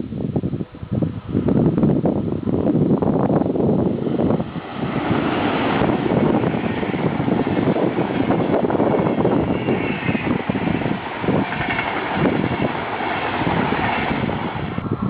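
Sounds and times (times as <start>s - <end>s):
wheels rushing on rails: 0.0s - 15.0s.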